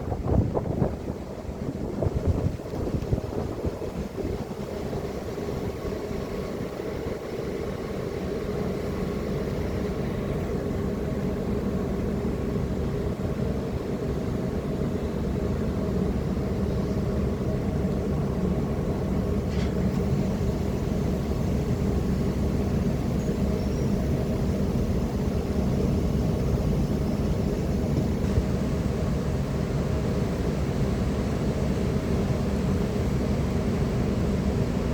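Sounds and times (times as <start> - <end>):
ship engines droning: 0.0 - 34.9.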